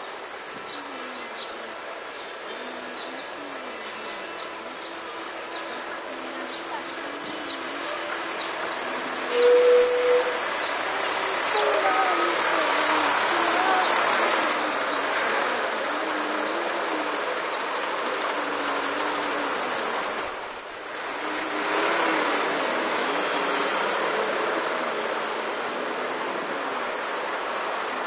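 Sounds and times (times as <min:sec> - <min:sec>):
city traffic noise: 0:00.0 - 0:28.0.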